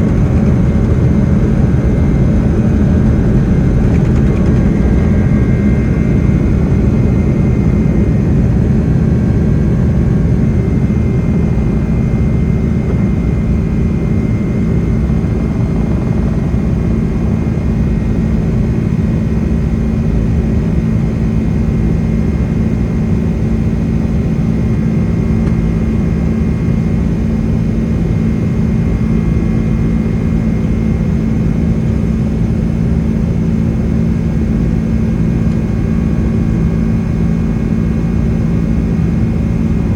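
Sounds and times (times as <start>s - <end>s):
faint high engine whine: 0.0s - 39.9s
jet engine rumble in cabin: 0.0s - 39.9s.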